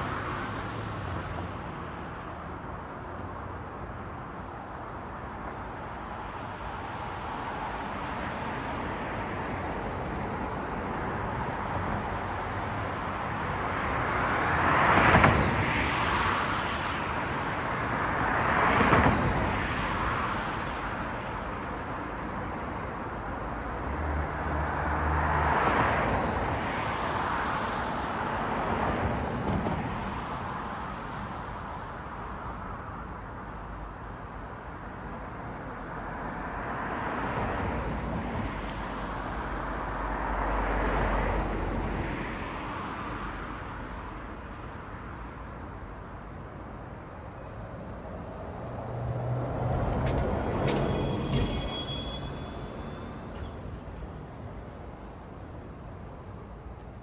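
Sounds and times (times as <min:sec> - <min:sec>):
steady traffic rumble: 0:00.0 - 0:57.0
vehicles passing: 0:05.4 - 0:57.0.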